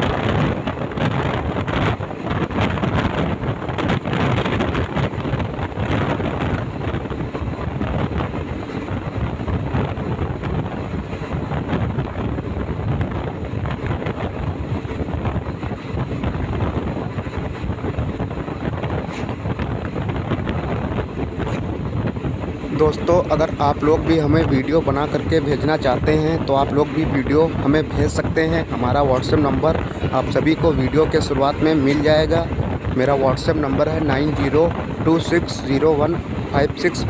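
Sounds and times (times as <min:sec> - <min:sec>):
train running on track: 0:00.0 - 0:37.0
wind buffeting microphone: 0:00.0 - 0:37.0.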